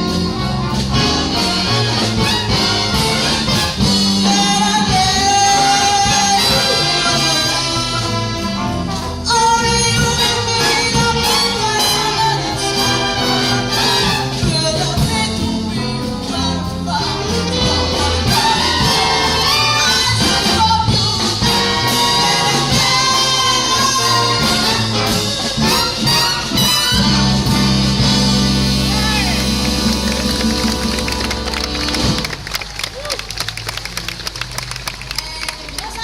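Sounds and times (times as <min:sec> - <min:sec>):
trumpets: 0:00.0 - 0:33.4
bass line: 0:00.0 - 0:35.5
big band playing jazz: 0:00.0 - 0:36.0.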